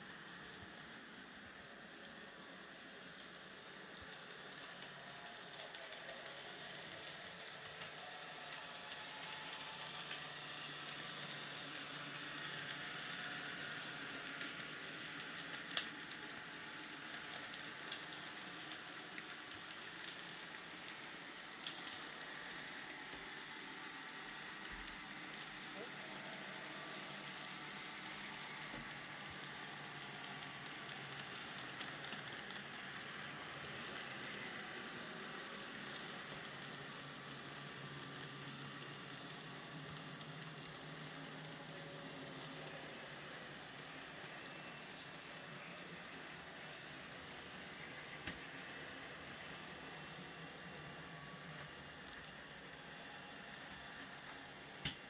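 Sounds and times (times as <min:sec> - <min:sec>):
model train running: 0:00.0 - 0:55.0.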